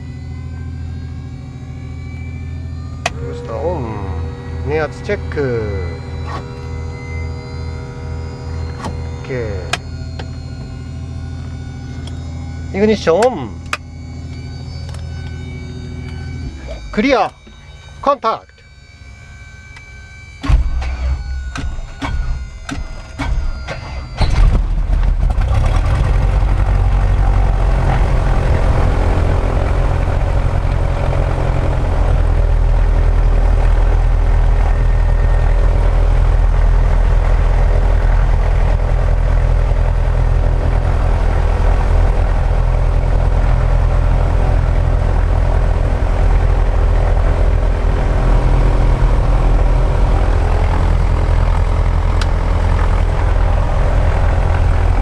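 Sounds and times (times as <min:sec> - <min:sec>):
propeller plane engine idling: 0:00.0 - 0:55.0.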